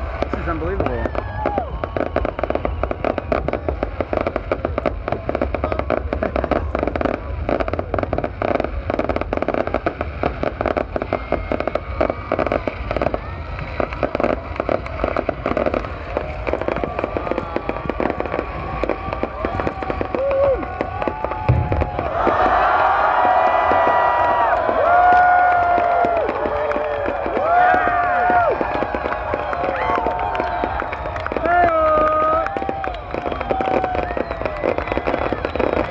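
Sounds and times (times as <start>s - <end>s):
fireworks crackling and banging: 0.0s - 35.9s.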